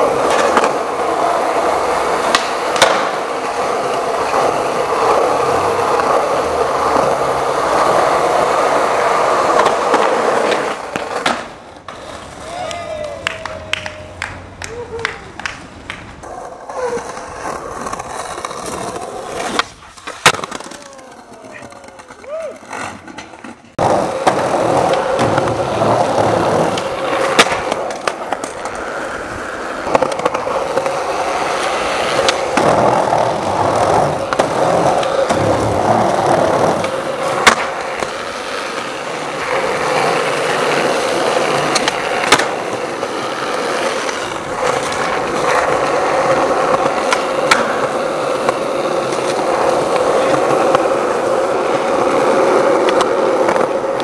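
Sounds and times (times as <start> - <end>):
skateboard popping and landing clacks: 0.0 - 29.0, 29.8 - 54.0
skateboard wheels rolling on concrete: 0.0 - 54.0.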